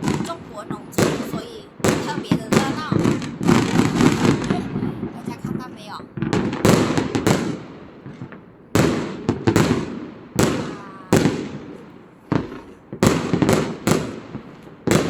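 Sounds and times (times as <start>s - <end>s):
fireworks bangs with rumbling echo: 0.0s - 15.0s.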